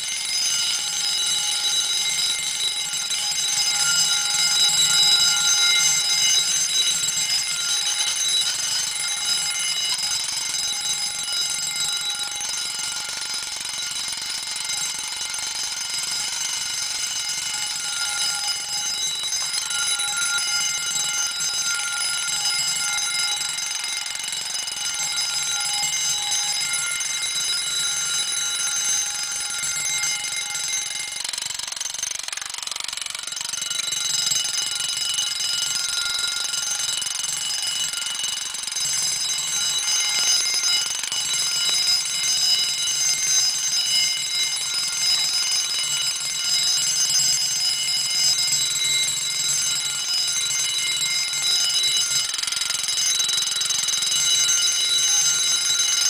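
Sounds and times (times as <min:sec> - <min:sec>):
alarm bell ringing: 0:00.0 - 0:56.0.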